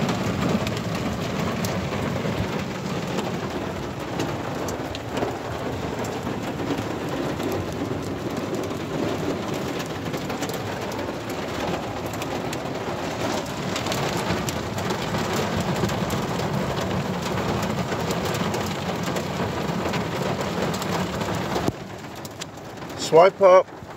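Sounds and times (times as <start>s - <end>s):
heavy rain on vehicle roof: 0.0s - 23.9s.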